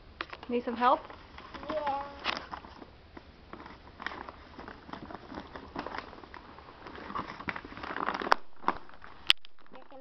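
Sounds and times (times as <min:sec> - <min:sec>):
paper wrapping rustling: 0:01.0 - 0:10.0.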